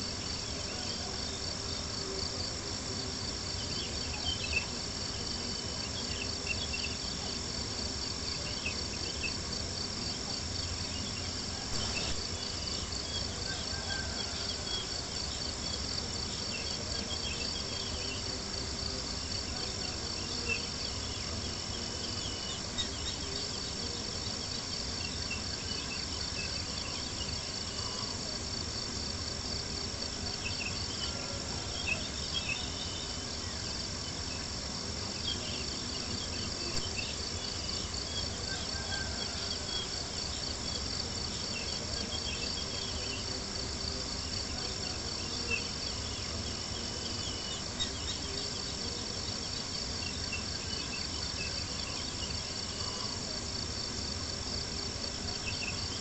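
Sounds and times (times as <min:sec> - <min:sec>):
night insects chirring: 0:00.0 - 0:56.0.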